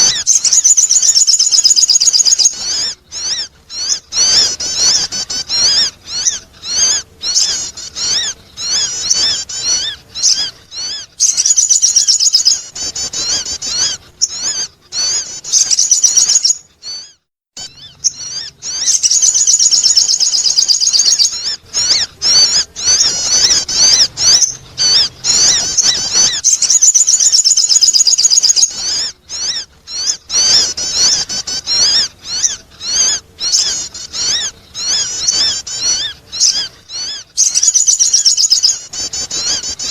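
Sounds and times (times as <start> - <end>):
rapid high bird chirping: 0.0 - 39.9.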